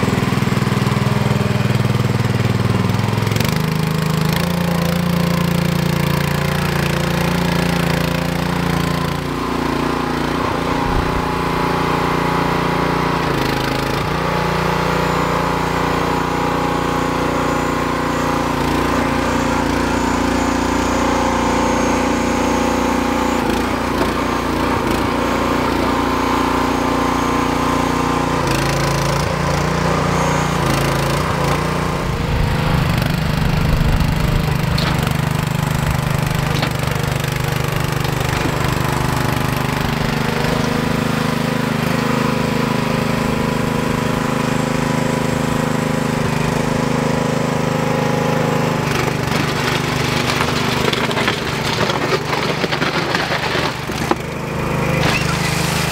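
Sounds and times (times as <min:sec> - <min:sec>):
small engine revving: 0:00.0 - 0:55.9.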